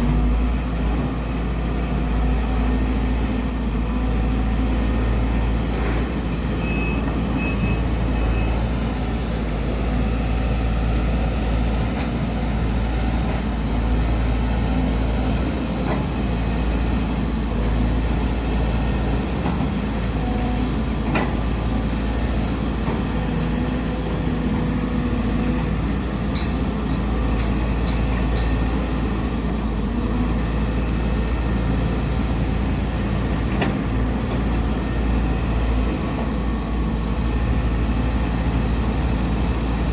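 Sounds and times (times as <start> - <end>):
large engine running: 0.0 - 39.9.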